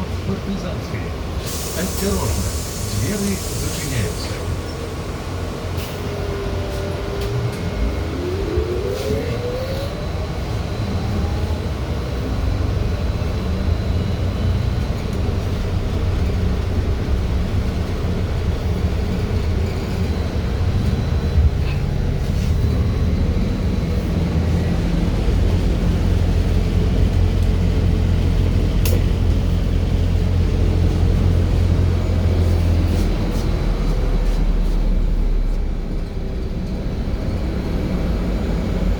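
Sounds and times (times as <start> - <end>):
low rumble of moving bus: 0.0 - 38.9.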